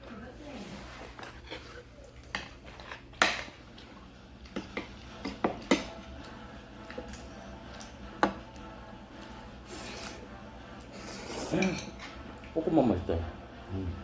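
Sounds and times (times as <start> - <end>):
utensils clinking against dishes: 0.6 - 13.3.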